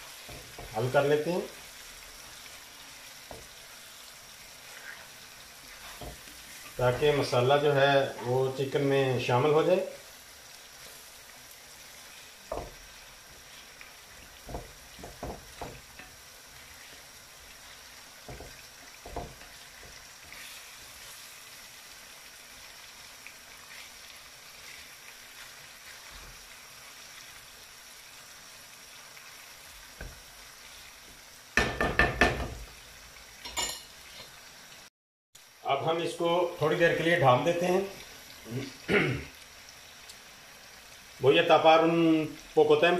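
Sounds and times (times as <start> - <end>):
food sizzling: 0.0 - 42.9.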